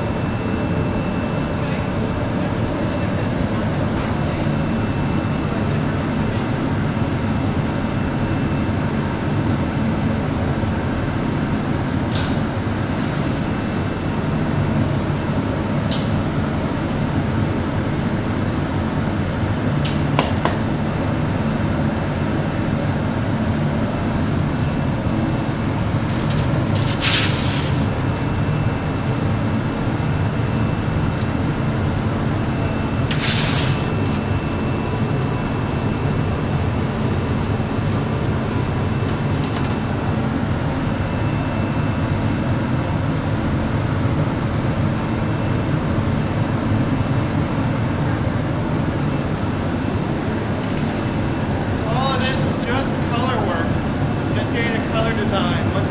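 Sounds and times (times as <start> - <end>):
gas furnace roaring: 0.0 - 55.9.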